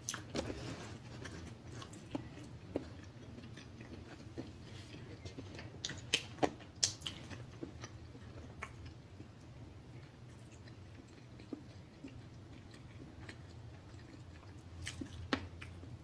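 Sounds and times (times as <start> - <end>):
chewing with lip smacks: 1.1 - 16.0.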